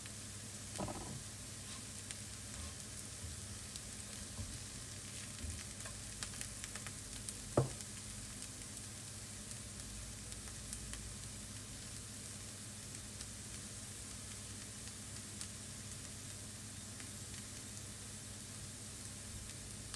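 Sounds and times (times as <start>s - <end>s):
vegetables sizzling in a pan: 0.0s - 19.9s.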